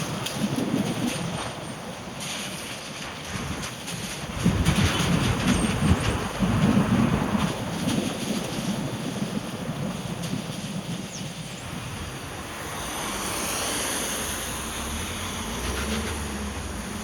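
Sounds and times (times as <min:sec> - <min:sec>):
rain hissing: 0:00.0 - 0:17.0
tyres on wet road: 0:00.0 - 0:17.0.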